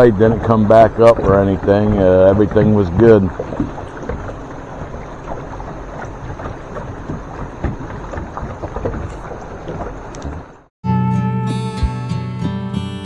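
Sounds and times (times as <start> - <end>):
water splashing and crackling: 0.0 - 10.7.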